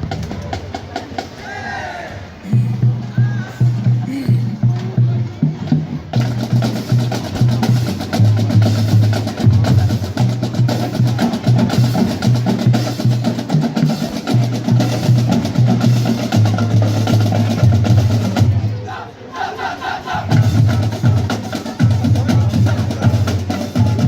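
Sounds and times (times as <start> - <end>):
low drums: 0.0 - 24.0.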